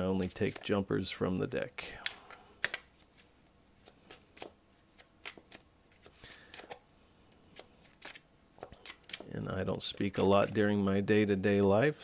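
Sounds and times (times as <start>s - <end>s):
cards shuffling: 0.1s - 10.8s.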